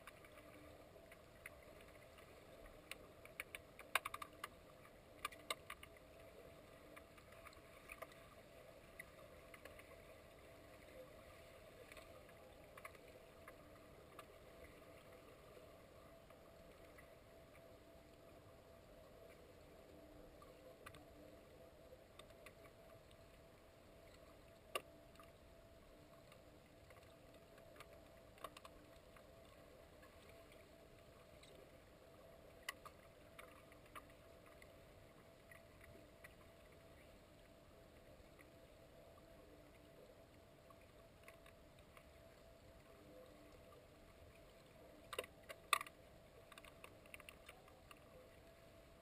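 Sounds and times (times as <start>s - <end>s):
faint underwater hum: 0.0s - 49.0s.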